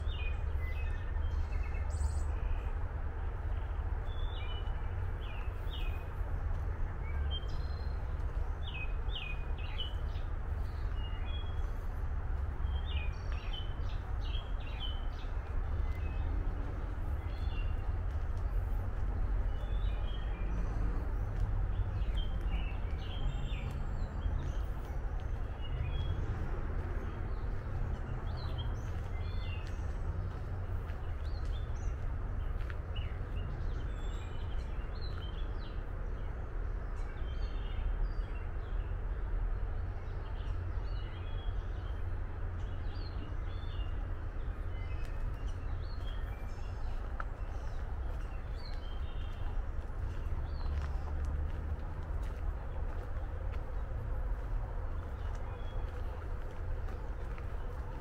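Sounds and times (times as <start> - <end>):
steady low rumble: 0.0 - 37.2, 38.0 - 58.0
wild birds chirping: 0.0 - 39.1, 39.8 - 58.0.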